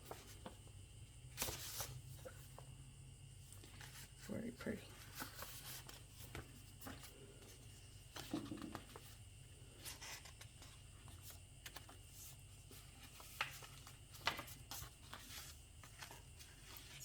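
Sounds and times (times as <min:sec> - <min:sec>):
paper pages rustling: 0:00.0 - 0:02.6, 0:03.4 - 0:04.3, 0:04.9 - 0:17.0
faint low hum: 0:00.0 - 0:17.0.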